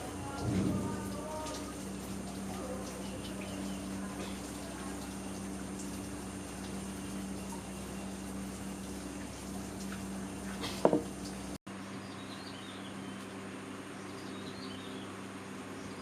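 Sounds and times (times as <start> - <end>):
outdoor background noise: 0.0 - 16.0
steady low hum: 0.0 - 16.0.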